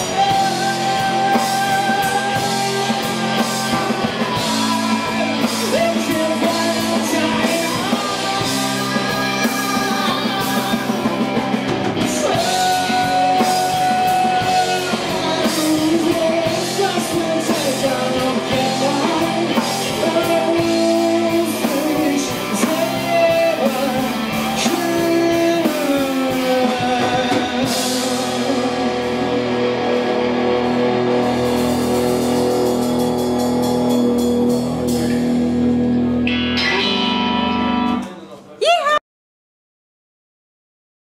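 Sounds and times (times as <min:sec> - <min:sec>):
person singing: 0:00.0 - 0:35.4
bass guitar: 0:00.0 - 0:39.0
drums: 0:00.0 - 0:39.0
electric guitar: 0:00.0 - 0:39.0.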